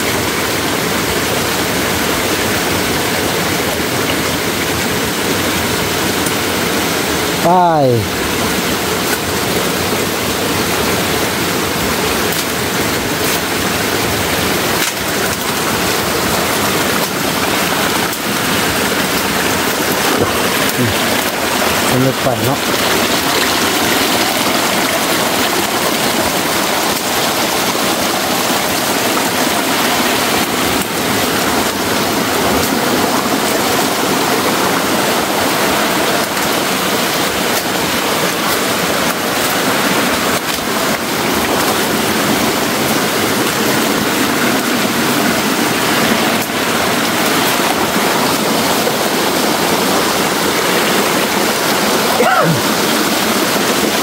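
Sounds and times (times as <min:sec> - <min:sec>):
forest stream rushing: 0:00.0 - 0:54.0.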